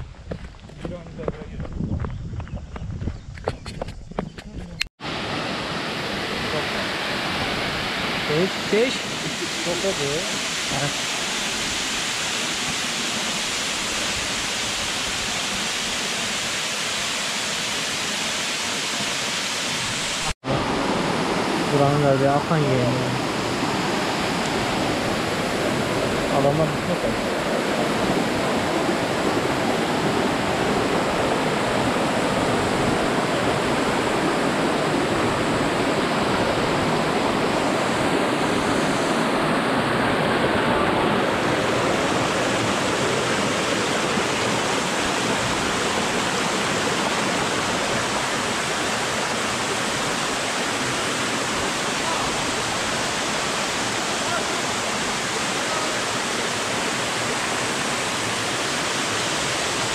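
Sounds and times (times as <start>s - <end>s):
stream rushing over rocks: 5.0s - 59.9s.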